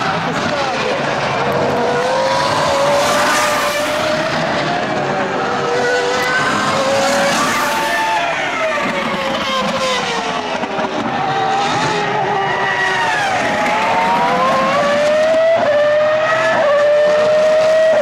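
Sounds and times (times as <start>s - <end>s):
racing car engine: 0.0s - 18.0s.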